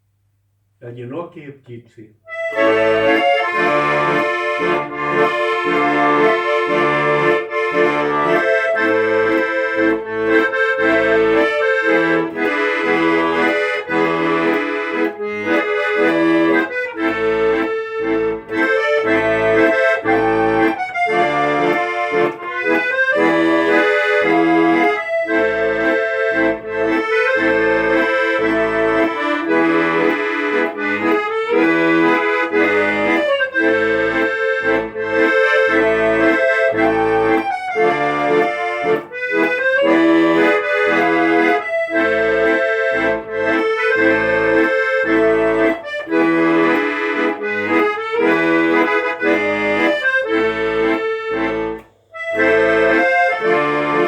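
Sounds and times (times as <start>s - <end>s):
instrumental music: 0.0s - 54.0s.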